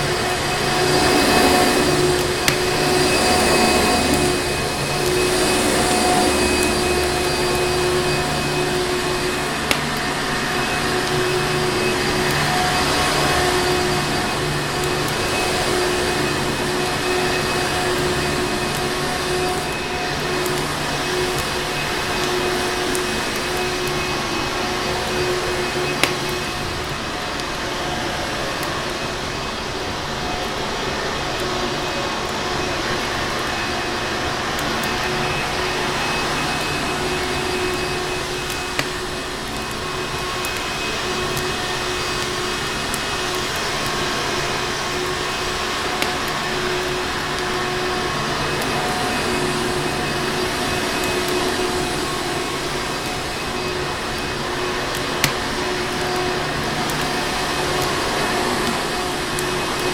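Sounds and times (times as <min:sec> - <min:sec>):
vacuum cleaner motor running: 0:00.0 - 0:59.9.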